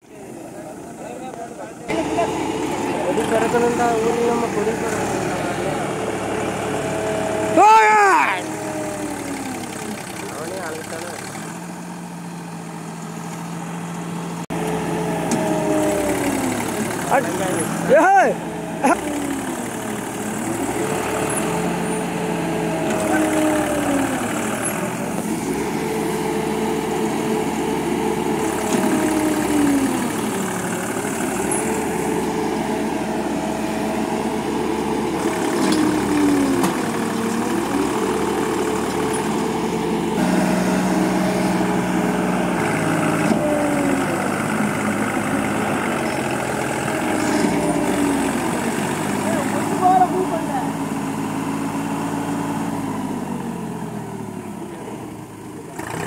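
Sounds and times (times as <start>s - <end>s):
combine harvester working: 0.0s - 56.0s
tractor diesel engine revving: 0.0s - 56.0s.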